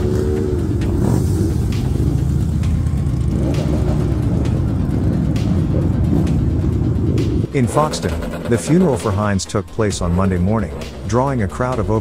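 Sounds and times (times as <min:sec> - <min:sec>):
motorcycle engines rumbling: 0:00.0 - 0:12.0
music: 0:00.0 - 0:12.0.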